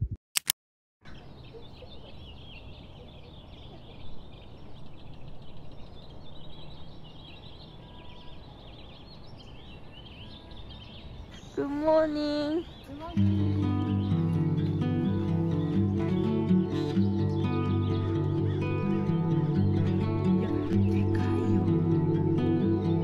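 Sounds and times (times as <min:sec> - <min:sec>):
small birds chirping: 0:01.0 - 0:23.0.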